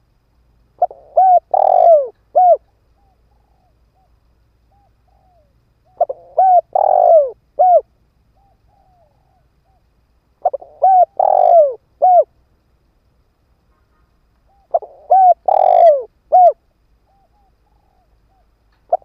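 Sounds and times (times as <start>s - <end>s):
dove cooing: 0.8s - 12.3s, 13.7s - 19.0s.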